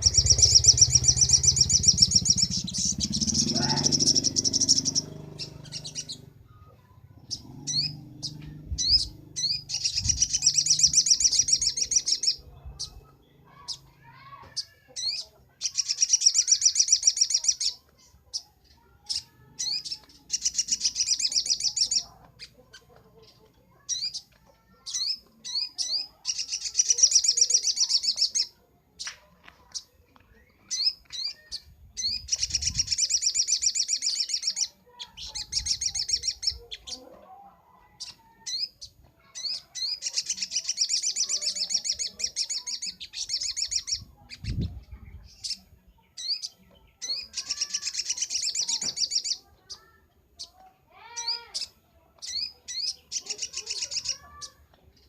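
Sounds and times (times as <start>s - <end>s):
bird chattering trill: 0.0s - 6.4s, 7.1s - 28.6s, 30.7s - 37.0s, 38.0s - 45.6s, 46.2s - 54.6s.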